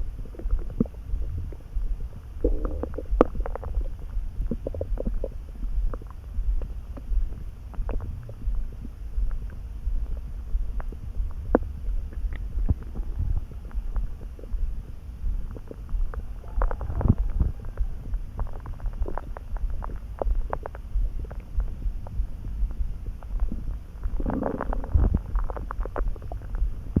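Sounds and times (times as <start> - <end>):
stomach gurgling and rumbling: 0.0 - 27.0.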